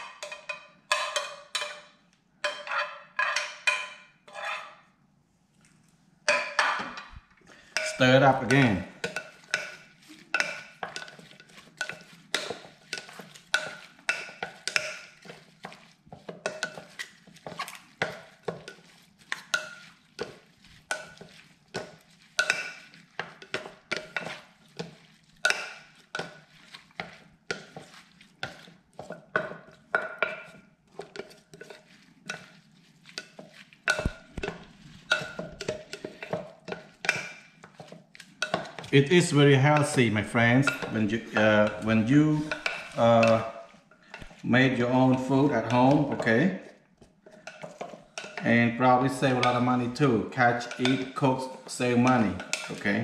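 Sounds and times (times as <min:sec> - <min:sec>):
utensil stirring sauce in bowl: 0:00.0 - 0:04.8, 0:06.3 - 0:53.0
utensil clinking against bowl: 0:06.3 - 0:53.0.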